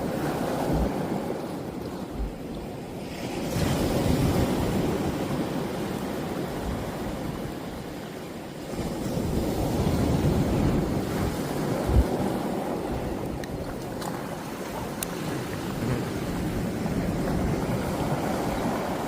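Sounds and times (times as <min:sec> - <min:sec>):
sea water rushing: 0:00.0 - 0:19.0.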